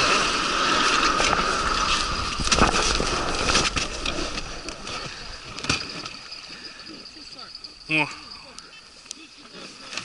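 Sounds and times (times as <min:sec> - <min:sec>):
water noise: 0:00.0 - 0:10.0.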